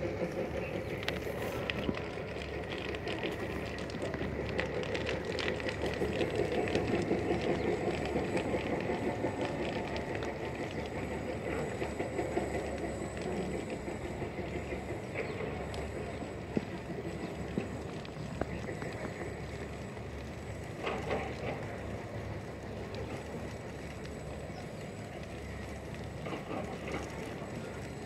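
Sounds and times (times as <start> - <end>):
fire crackles and pops: 0.0 - 28.0
rush of flames: 0.0 - 28.0.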